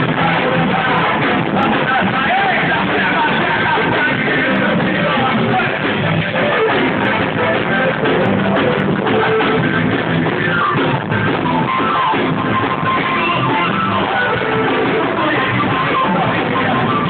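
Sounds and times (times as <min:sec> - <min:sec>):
guitar music: 0:00.0 - 0:17.0
person singing: 0:00.0 - 0:17.0.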